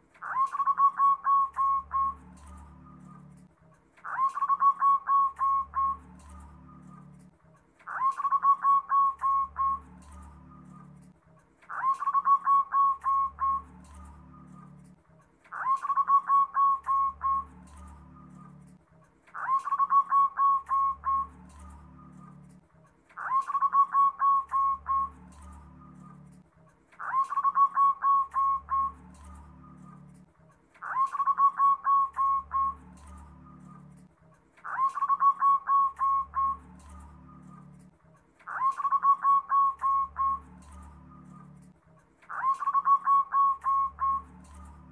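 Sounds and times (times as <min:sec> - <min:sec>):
dove cooing song: 0:00.2 - 0:22.6, 0:23.2 - 0:26.4, 0:27.0 - 0:41.7, 0:42.3 - 0:44.9.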